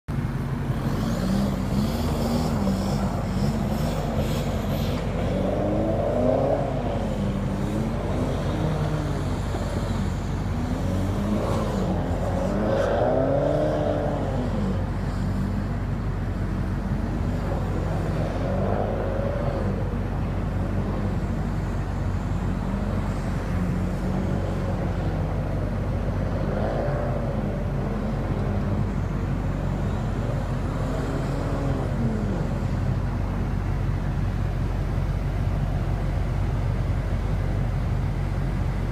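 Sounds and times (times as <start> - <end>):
diesel car engine revving: 0.1 - 38.9.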